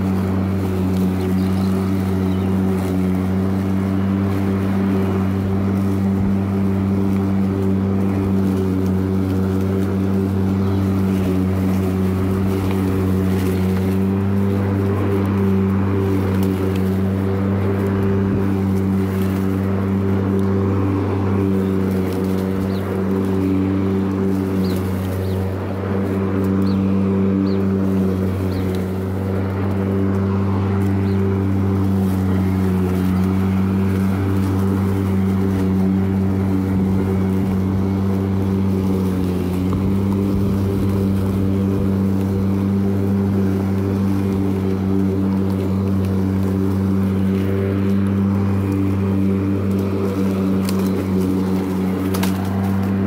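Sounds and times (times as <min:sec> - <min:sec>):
electric lawnmower humming: 0:00.0 - 0:53.0.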